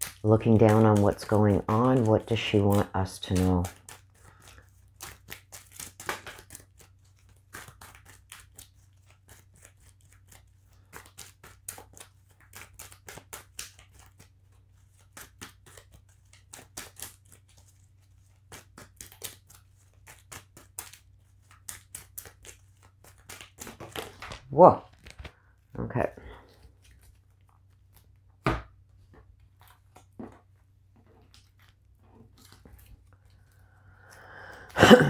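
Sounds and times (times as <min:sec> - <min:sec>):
cards being shuffled: 0:00.0 - 0:25.5, 0:26.1 - 0:35.0.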